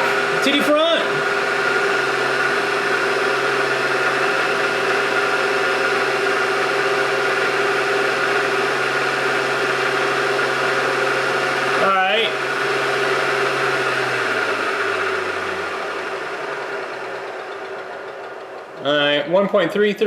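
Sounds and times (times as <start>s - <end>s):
machine tool motor humming: 0.0s - 19.2s.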